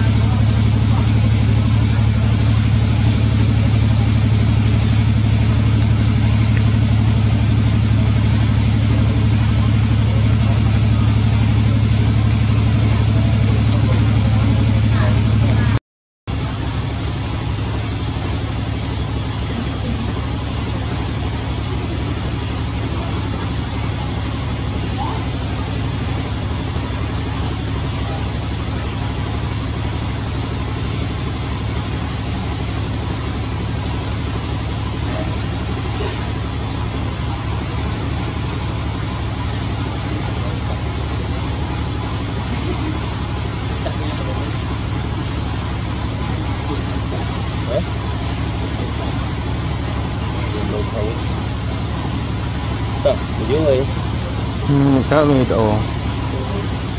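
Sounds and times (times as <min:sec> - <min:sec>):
low mechanical hum: 0:00.0 - 0:56.9.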